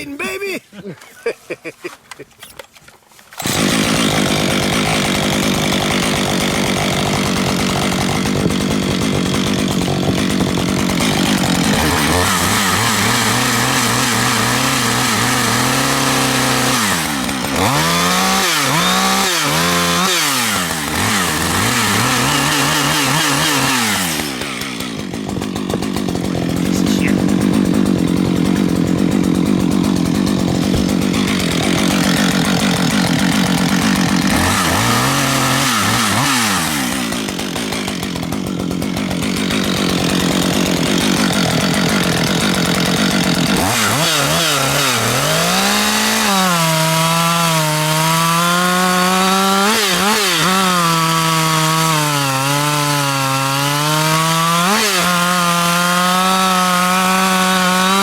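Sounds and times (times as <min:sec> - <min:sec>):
chainsaw cutting log: 0:01.6 - 0:58.0.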